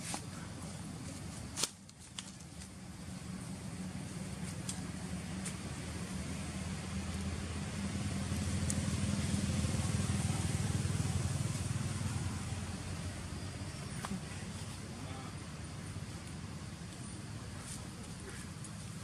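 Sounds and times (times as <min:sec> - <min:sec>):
motor vehicle engine rumble: 0:00.0 - 0:19.0.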